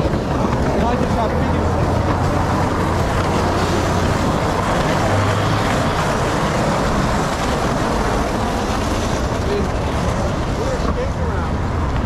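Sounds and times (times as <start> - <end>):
low engine drone: 0.0 - 12.0
road traffic noise: 0.0 - 12.0.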